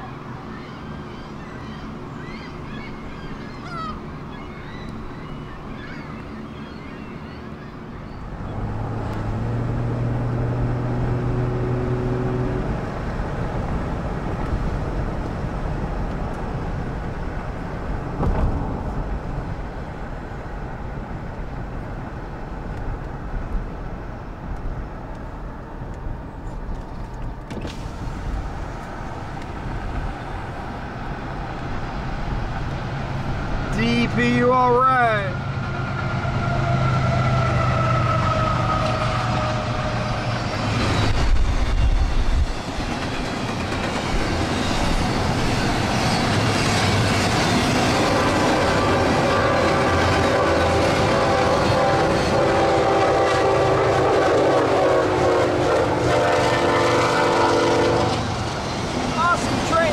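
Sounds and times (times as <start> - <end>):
train wheels rumbling on rail: 8.1 - 59.9.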